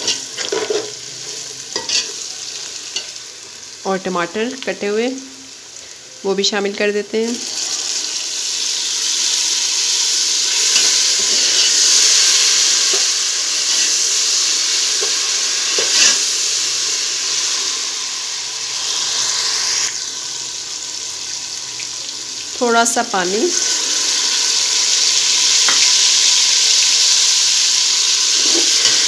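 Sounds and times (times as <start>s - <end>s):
tomatoes sizzling in hot oil: 0.0s - 29.0s.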